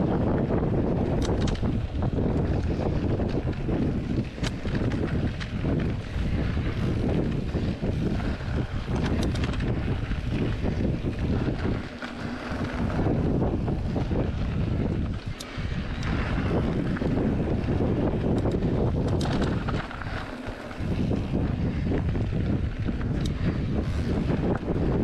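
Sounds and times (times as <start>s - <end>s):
bike clicks and rattles: 0.0s - 25.0s
bike tyres rolling on gravel: 0.0s - 25.0s
wind buffeting microphone: 0.0s - 25.0s.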